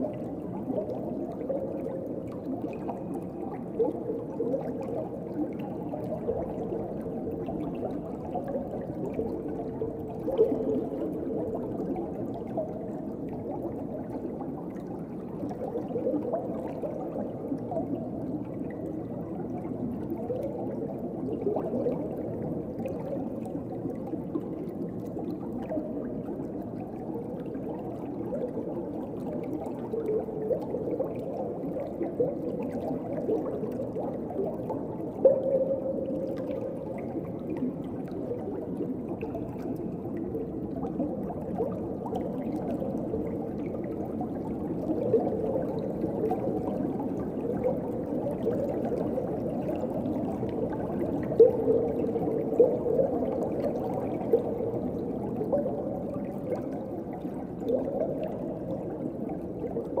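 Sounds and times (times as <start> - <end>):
bubbling and gurgling: 0.0 - 60.0
muffled underwater water wash: 0.0 - 60.0.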